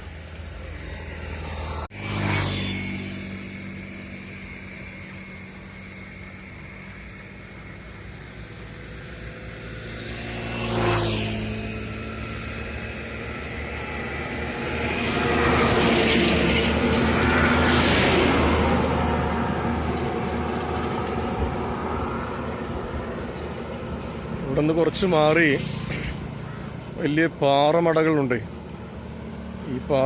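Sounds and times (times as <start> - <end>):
road vehicles passing: 0.0 - 30.0
steady engine hum: 0.0 - 30.0.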